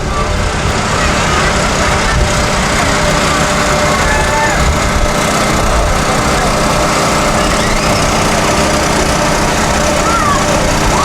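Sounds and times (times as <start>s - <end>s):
engine drone: 0.0s - 11.0s
faint voices: 0.0s - 11.0s.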